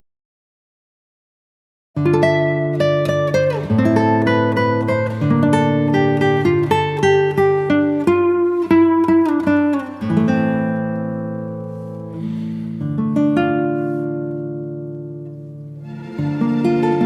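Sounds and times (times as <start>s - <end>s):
acoustic guitar music: 2.0s - 17.0s.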